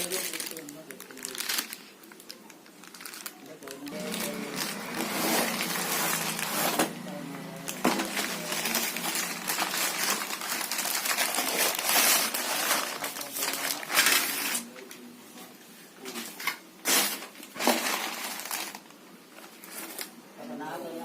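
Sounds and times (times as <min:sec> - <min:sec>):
packaging rustling and crinkling: 0:00.0 - 0:15.0, 0:16.0 - 0:20.2.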